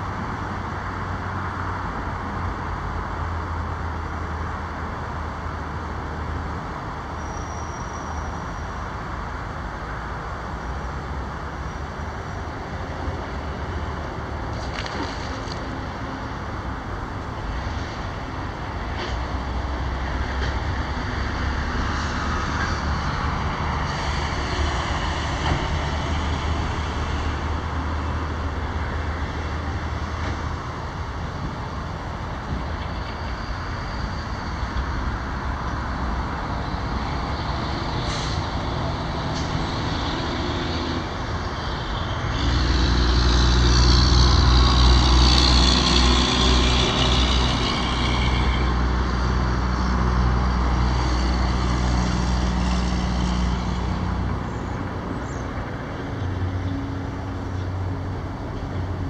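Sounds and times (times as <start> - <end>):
heavy vehicle engine drone: 0.0 - 59.0
road traffic noise: 0.0 - 59.0.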